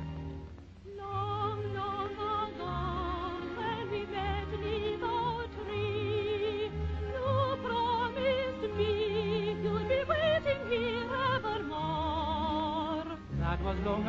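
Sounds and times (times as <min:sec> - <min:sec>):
string orchestra: 0:00.0 - 0:14.0
soprano singing operatic vibrato: 0:00.9 - 0:14.0.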